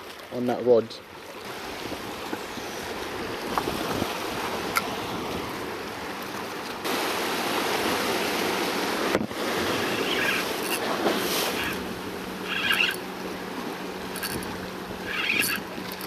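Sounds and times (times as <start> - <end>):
sea washing against rocks: 1.4 - 16.0.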